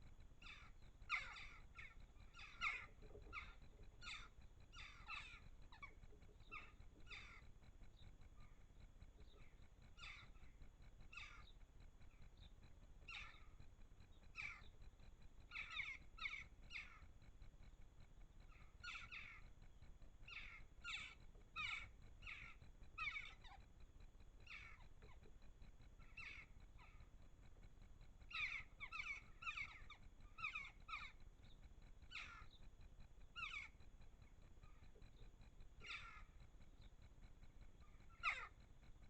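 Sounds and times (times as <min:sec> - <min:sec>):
birds calling: 0:00.0 - 0:39.0.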